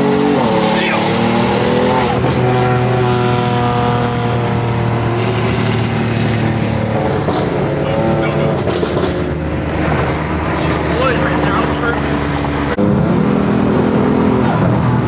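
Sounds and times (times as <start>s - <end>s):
car engine driving: 0.0s - 15.0s.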